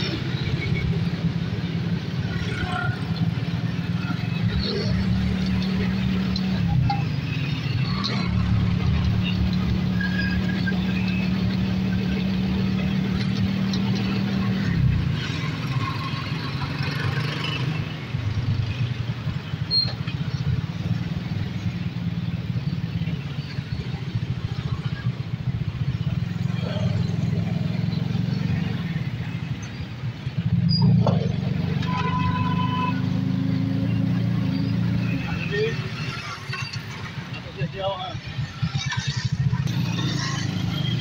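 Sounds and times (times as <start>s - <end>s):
street traffic noise: 0.0s - 41.0s.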